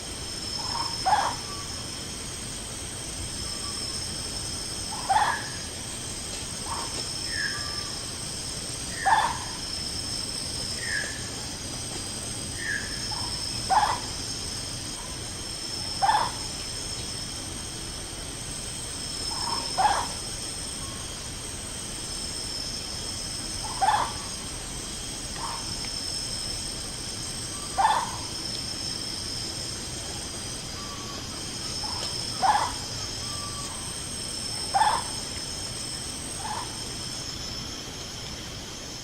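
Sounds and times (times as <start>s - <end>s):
night insects buzzing: 0.0s - 39.0s.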